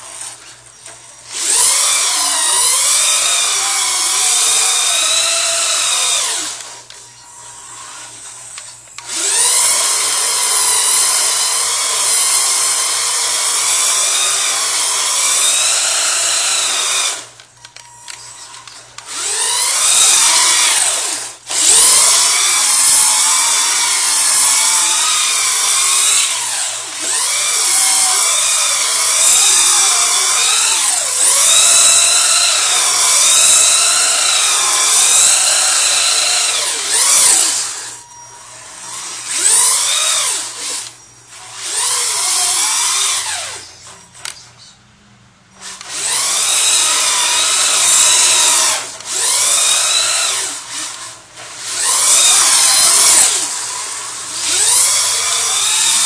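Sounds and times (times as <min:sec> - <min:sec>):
electric motor whining: 0:00.0 - 0:44.4, 0:45.6 - 0:56.0.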